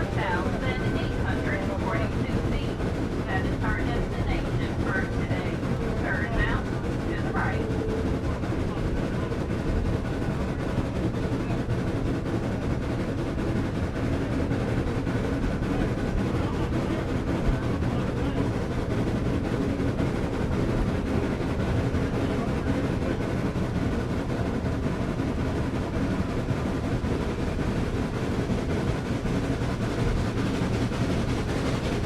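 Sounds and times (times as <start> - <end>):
train rumbling along track: 0.0 - 32.0.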